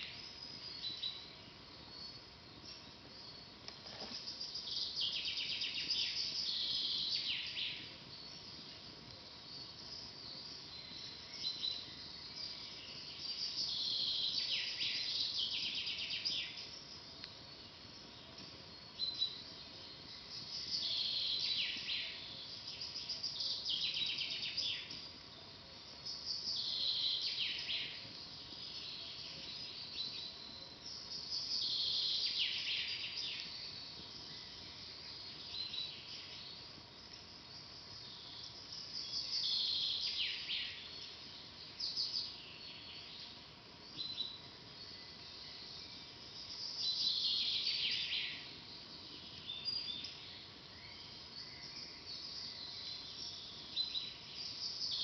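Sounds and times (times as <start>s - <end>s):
faint background hiss: 0.0s - 55.0s
songbird singing: 0.0s - 55.0s.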